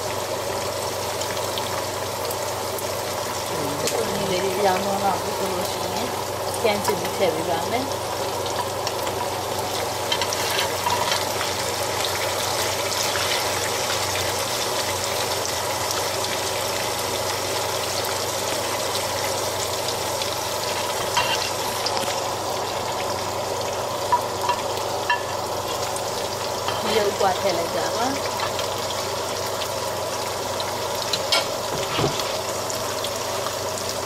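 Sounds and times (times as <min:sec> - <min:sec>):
meatballs sizzling in frying pan: 0:00.0 - 0:34.0.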